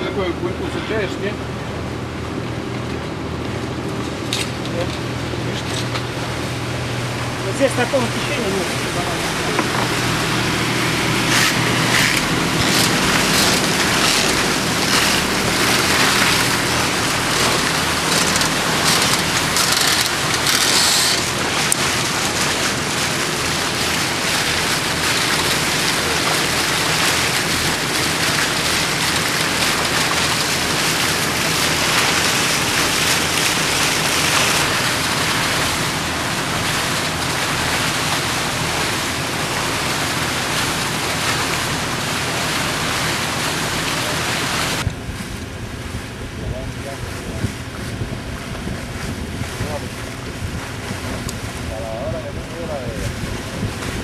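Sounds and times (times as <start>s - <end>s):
water rushing: 0.0s - 54.0s
wind: 0.0s - 54.0s.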